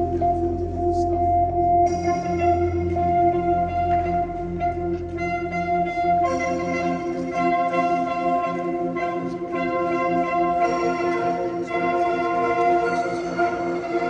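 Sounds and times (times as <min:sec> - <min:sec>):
ambient music with bell-like tones: 0:00.0 - 0:14.0.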